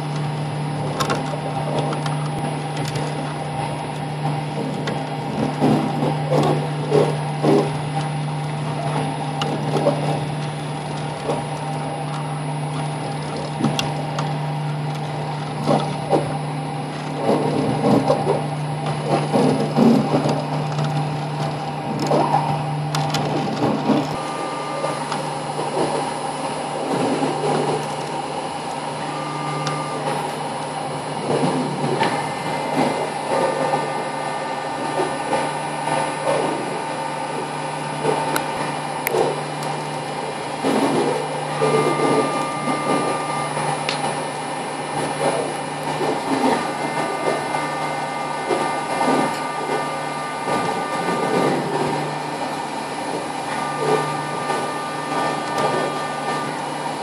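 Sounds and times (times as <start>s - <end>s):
high machine whine: 0.0s - 57.0s
machine humming: 0.0s - 57.0s.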